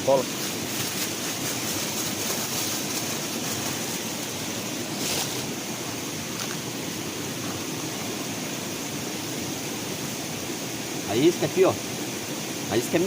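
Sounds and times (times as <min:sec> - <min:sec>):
rain falling: 0:00.0 - 0:11.8.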